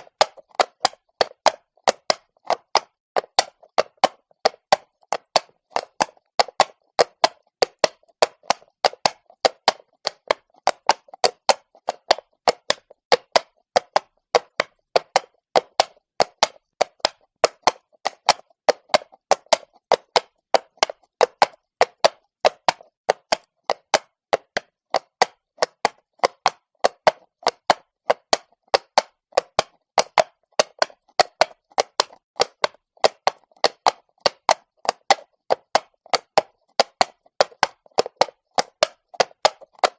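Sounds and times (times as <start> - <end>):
horse hooves on cobbles: 0.0 - 39.9.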